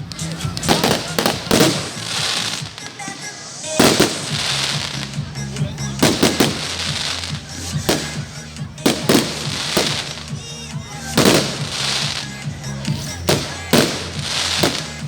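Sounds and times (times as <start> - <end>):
fireworks bangs: 0.0 - 15.0
fireworks crackling hiss: 0.0 - 15.0.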